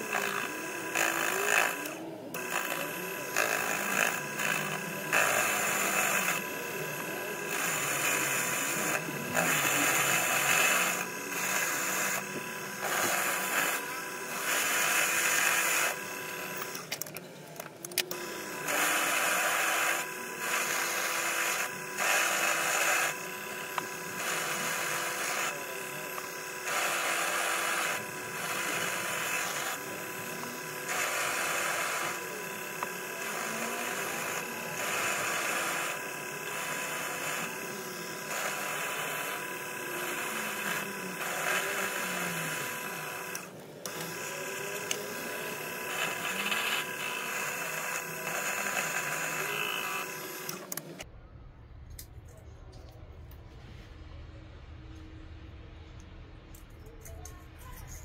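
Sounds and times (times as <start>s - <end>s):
lathe tool cutting steel hissing: 0.0s - 17.0s, 18.1s - 50.8s
lathe motor whine: 0.0s - 51.1s.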